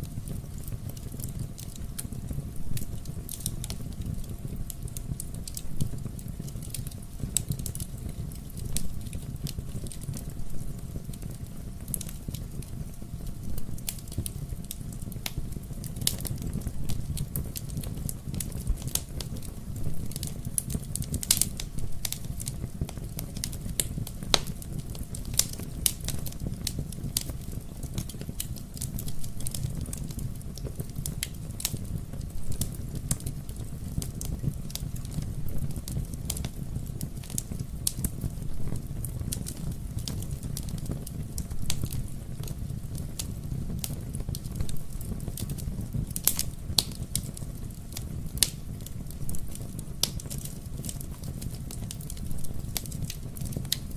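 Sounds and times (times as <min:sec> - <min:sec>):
low rumble of flames: 0:00.0 - 0:53.9
wood fire popping and snapping: 0:00.0 - 0:53.9.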